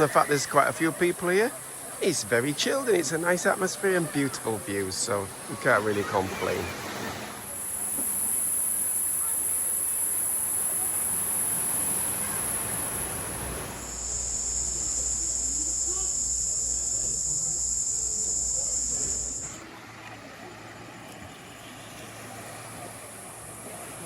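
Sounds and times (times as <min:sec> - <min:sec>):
cicadas buzzing: 0:00.0 - 0:19.6, 0:20.8 - 0:24.0.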